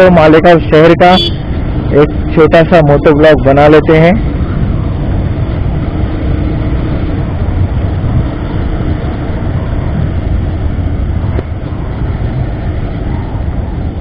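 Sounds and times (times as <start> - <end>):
motorcycle engine cruising: 0.0 - 14.0
wind rushing on microphone: 0.0 - 14.0.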